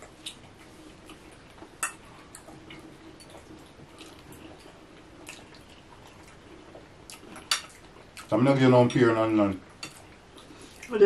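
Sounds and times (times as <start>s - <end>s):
chewing: 0.0s - 8.4s, 9.4s - 11.0s
faint steady hum: 0.0s - 11.0s.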